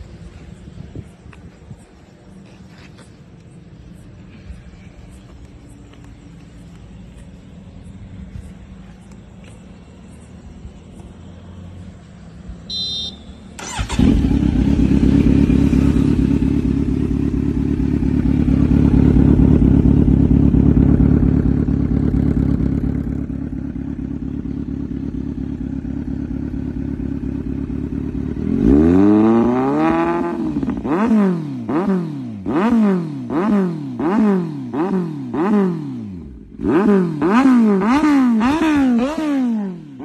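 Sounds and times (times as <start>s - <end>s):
motorcycle engine idling: 0.0s - 32.7s
motorcycle engine revving: 6.3s - 40.0s.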